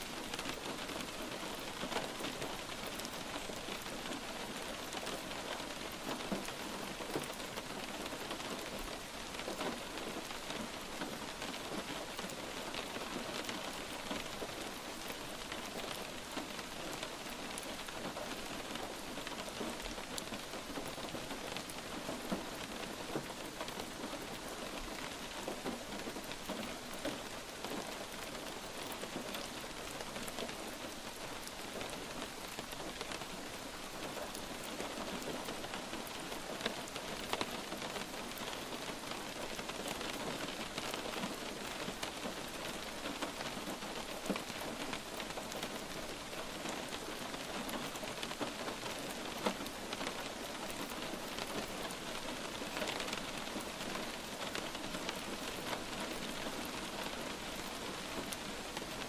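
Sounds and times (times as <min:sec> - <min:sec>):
light rain patter: 0:00.0 - 0:59.0.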